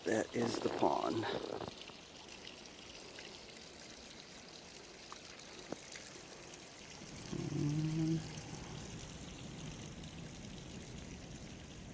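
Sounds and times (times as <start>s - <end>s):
water trickling into a pond: 0.0s - 11.9s.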